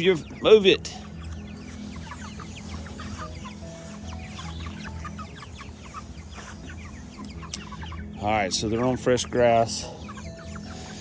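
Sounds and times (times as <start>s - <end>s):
chickens peeping and clucking: 0.0s - 11.0s.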